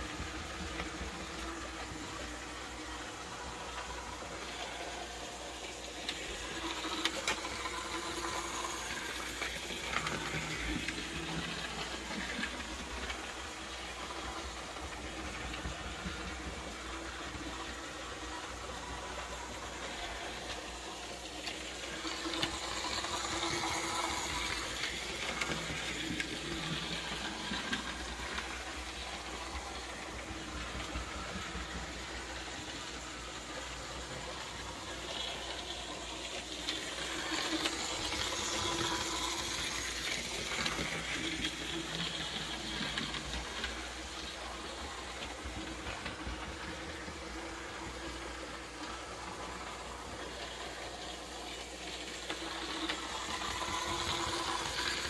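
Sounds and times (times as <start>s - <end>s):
model train motor whirring: 0.0s - 55.0s
wheels rolling on rails: 0.0s - 55.0s.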